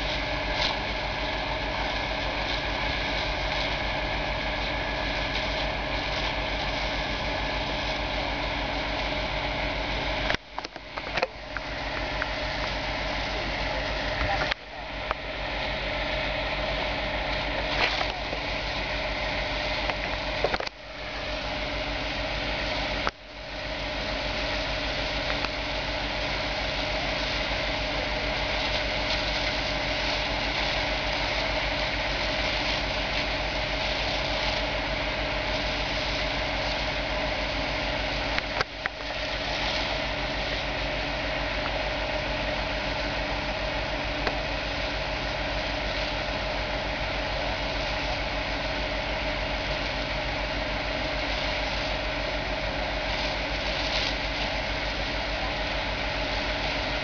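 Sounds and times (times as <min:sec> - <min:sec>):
constant hiss: 0:00.0 - 0:57.0
fire engine motor running: 0:00.0 - 0:57.0.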